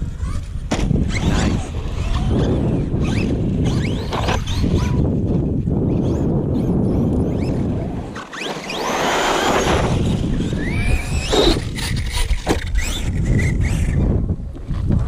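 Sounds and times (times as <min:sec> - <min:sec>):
electric rc car motor whining: 0:00.0 - 0:14.8
wind rumble on microphone: 0:00.0 - 0:15.0.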